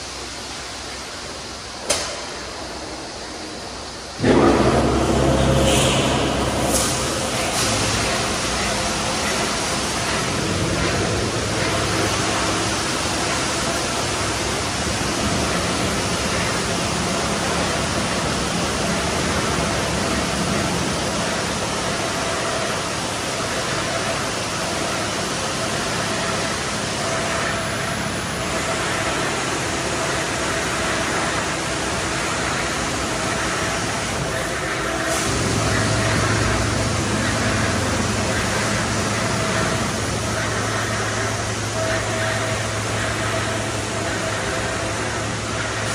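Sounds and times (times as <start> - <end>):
high-pressure water jets hissing: 5.6 - 45.9.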